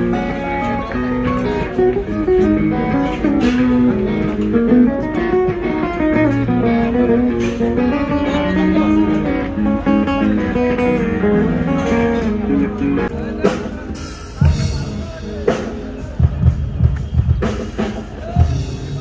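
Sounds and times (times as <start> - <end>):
electric guitar melodic line: 0.0 - 19.0.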